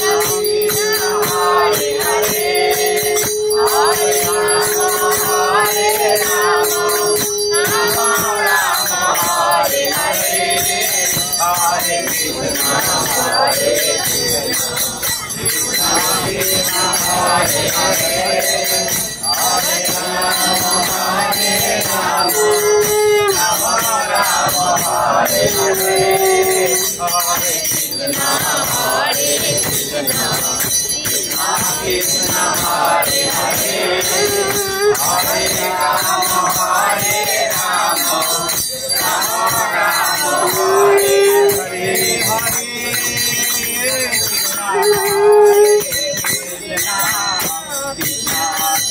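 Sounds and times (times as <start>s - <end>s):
group singing a hymn: 0.0s - 48.9s
rhythmic hand-clapping: 0.0s - 48.9s
small bell ringing: 0.0s - 48.9s.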